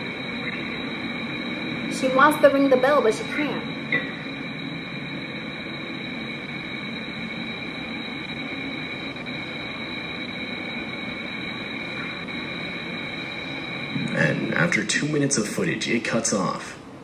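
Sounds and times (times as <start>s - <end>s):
high-pitched whine: 0.0s - 17.0s.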